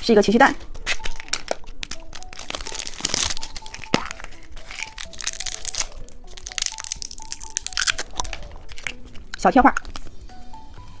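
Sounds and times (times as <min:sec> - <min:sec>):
soft background music: 0:00.0 - 0:11.0
plastic cracking: 0:00.8 - 0:10.1
wrapper crinkling: 0:00.8 - 0:10.1.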